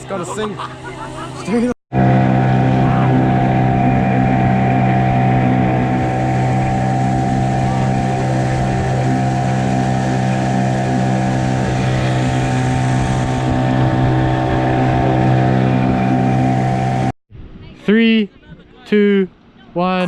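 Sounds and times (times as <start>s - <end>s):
boat engine running: 0.0s - 17.7s.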